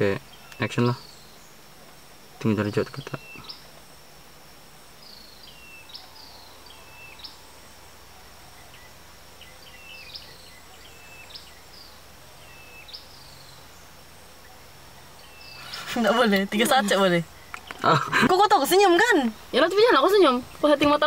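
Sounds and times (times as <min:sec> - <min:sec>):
bird chirping: 0:00.0 - 0:04.1, 0:04.9 - 0:21.0
faint low hum: 0:00.0 - 0:21.0
high insect drone: 0:00.0 - 0:21.0.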